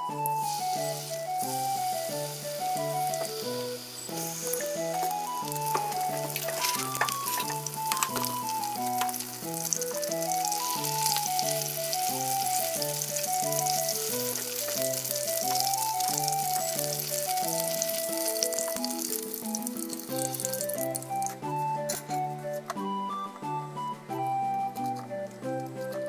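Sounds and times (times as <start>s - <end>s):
background music: 0.0s - 26.0s
oil sizzling and crackling: 0.1s - 22.7s.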